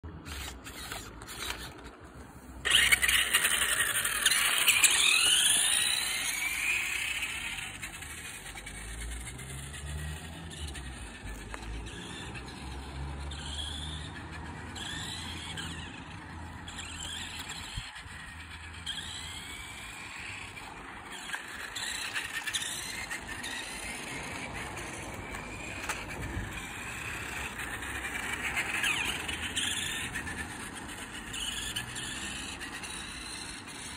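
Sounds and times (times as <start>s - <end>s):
toy motorcycle electric whine: 0.1s - 33.9s.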